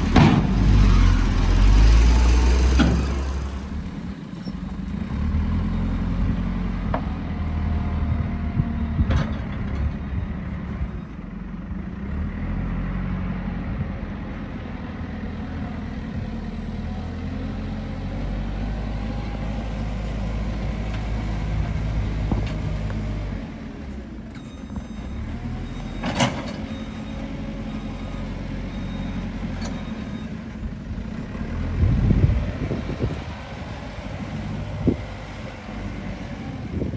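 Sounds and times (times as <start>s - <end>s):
heavy diesel engines running: 0.0s - 36.9s.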